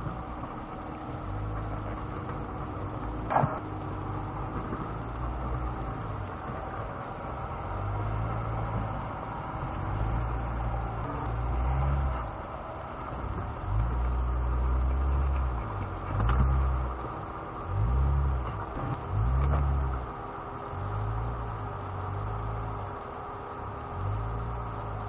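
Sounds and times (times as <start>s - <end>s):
engine running at low speed: 0.0s - 25.0s.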